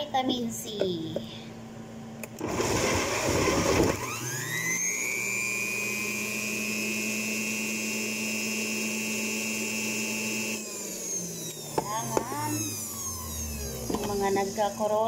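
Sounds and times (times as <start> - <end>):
juicer motor high whine: 1.8 - 15.0
electric juicer grinding fruit: 2.3 - 15.0.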